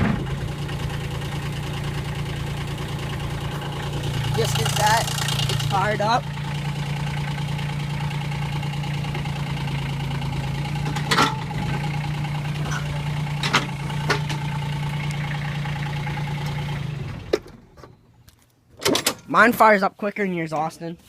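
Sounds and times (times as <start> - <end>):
diesel excavator engine idling: 0.0 - 18.2
engine shutting off: 0.0 - 18.2.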